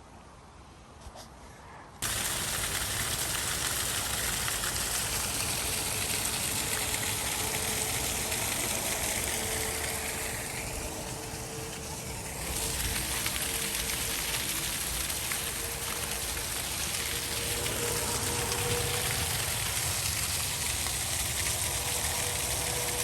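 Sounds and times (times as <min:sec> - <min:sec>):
waterfall rushing water: 0:02.0 - 0:23.0.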